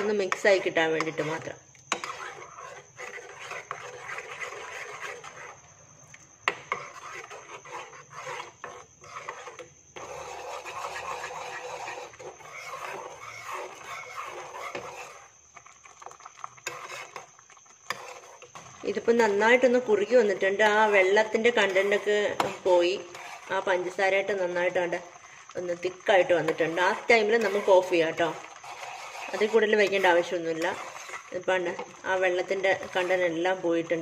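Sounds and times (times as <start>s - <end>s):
metal spoon scraping a saucepan: 0.0s - 5.6s, 6.4s - 34.0s
syrup bubbling: 0.0s - 34.0s.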